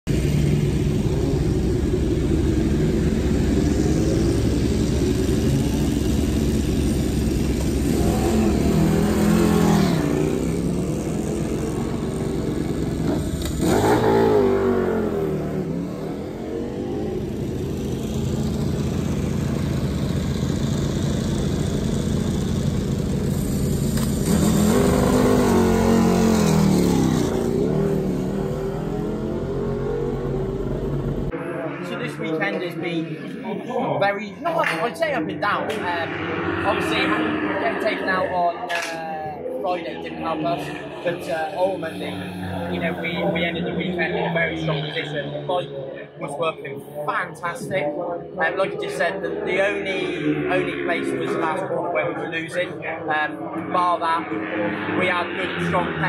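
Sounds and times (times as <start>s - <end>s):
motorcycle engines idling and revving: 0.0s - 56.0s.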